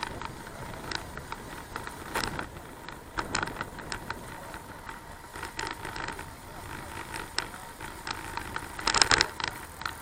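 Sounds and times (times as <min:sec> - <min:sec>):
bicycle clicks and rattles: 0:00.0 - 0:10.0
bicycle rolling noise: 0:00.0 - 0:10.0.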